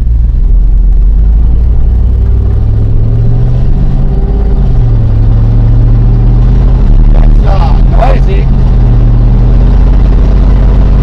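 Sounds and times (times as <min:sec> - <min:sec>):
pickup truck engine droning: 0:00.0 - 0:11.0.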